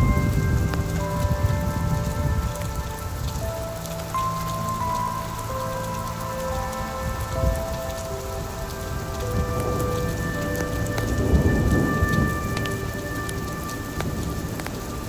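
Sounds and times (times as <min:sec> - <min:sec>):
steady rain: 0:00.0 - 0:15.0
thunder rolling: 0:00.0 - 0:15.0.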